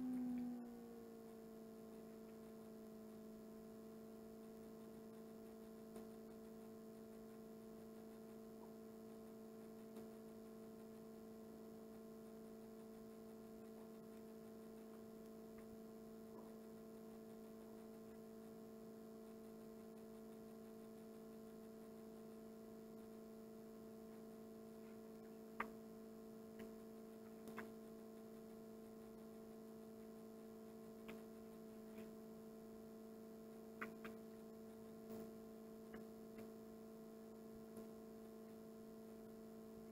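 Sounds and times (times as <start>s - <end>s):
steady electrical hum: 0.0s - 39.9s
faint clicks: 4.2s - 32.2s, 33.4s - 39.9s.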